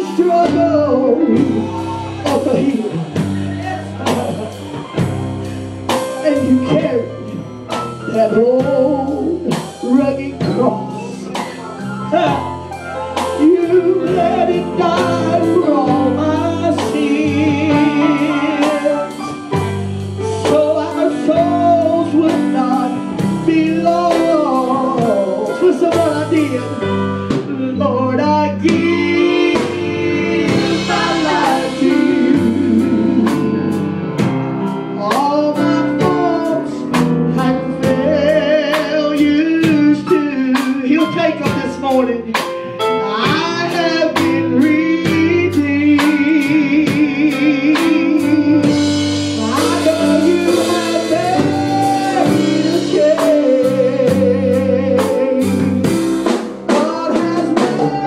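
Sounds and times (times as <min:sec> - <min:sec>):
electric guitar band: 0:00.0 - 0:58.0
singers singing gospel: 0:00.0 - 0:58.0.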